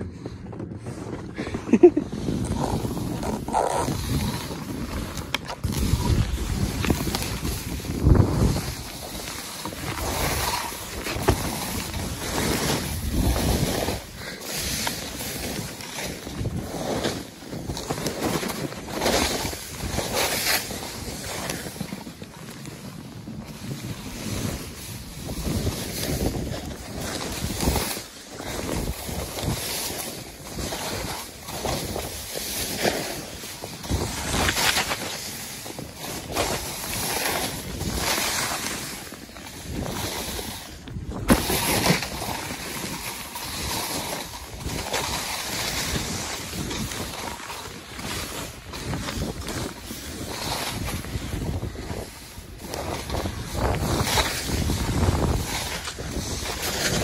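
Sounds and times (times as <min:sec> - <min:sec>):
wind buffeting microphone: 0:00.0 - 0:18.2, 0:23.4 - 0:57.0
sliding over snow: 0:00.0 - 0:57.0.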